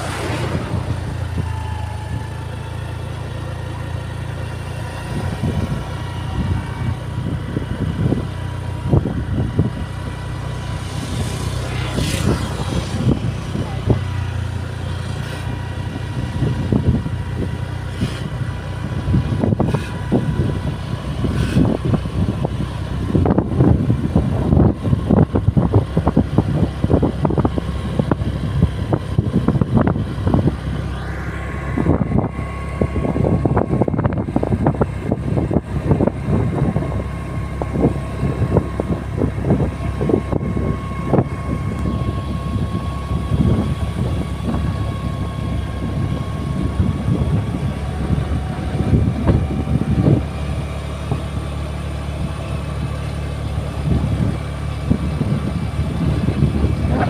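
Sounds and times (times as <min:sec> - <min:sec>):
motor vehicle engine rumble: 0:00.0 - 0:57.0.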